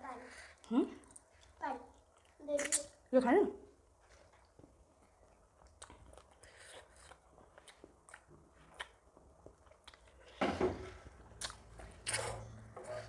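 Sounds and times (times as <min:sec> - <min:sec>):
chewing: 0:00.3 - 0:03.0, 0:04.0 - 0:10.4, 0:11.2 - 0:13.0.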